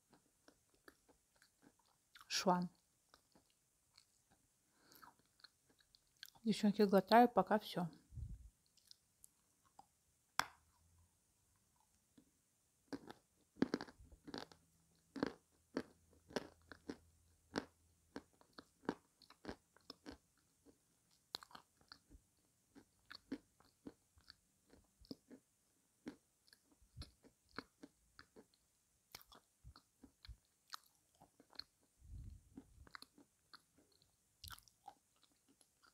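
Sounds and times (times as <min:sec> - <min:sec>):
crunching and chewing clay: 0:00.0 - 0:06.4, 0:12.9 - 0:35.9.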